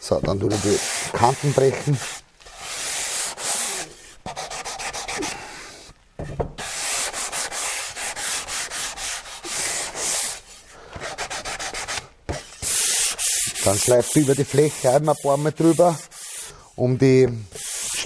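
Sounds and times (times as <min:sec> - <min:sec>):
sandpaper scratching on wood: 0:00.4 - 0:05.4, 0:06.6 - 0:16.9, 0:17.5 - 0:18.0.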